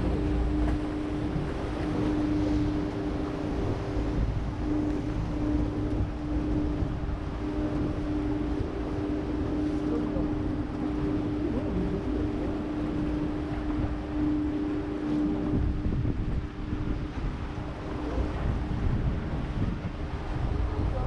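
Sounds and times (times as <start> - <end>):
boat engine humming: 0.0 - 21.0
rumble of water: 0.0 - 21.0
wind buffeting microphone: 0.0 - 21.0.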